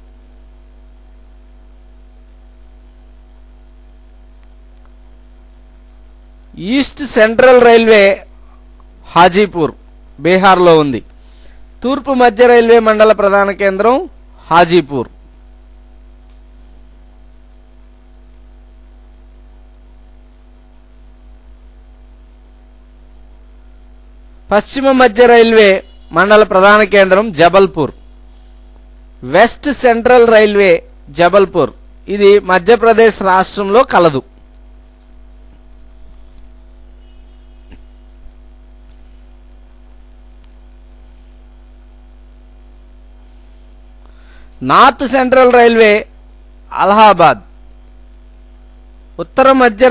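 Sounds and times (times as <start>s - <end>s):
small click: 0.0s - 12.1s, 13.6s - 24.5s, 25.4s - 29.3s, 30.9s - 49.9s
faint hiss: 0.0s - 49.9s
fast high ticking: 0.0s - 49.9s
low electrical hum: 0.0s - 49.9s.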